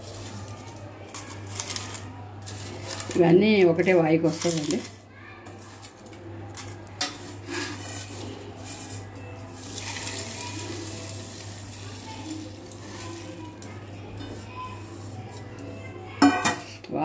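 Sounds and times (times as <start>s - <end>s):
dry spices rustling and rattling: 0.0s - 15.6s.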